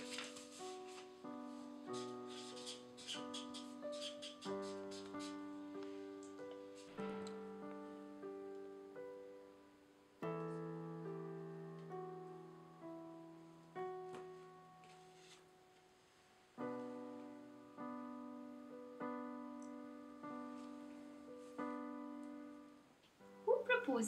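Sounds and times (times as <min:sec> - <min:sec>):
soft slow piano music: 0:00.0 - 0:24.0.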